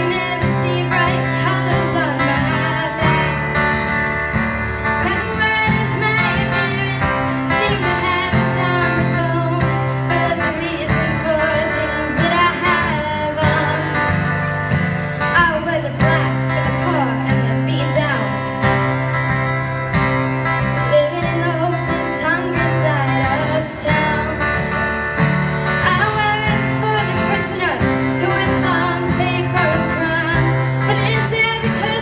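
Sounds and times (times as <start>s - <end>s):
girl singing into a microphone: 0.0s - 4.1s, 4.8s - 18.7s, 20.5s - 32.0s
amplified acoustic guitar: 0.0s - 32.0s.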